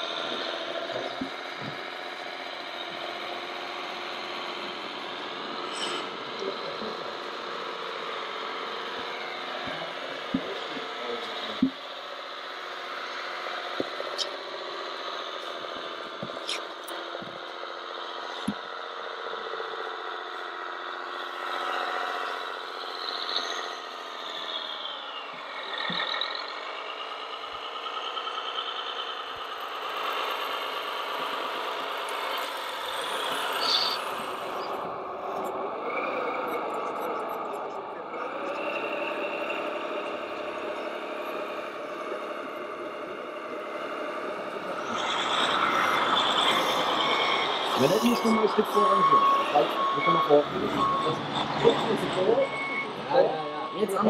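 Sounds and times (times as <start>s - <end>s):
model truck motor and gear whine: 0.0s - 54.0s.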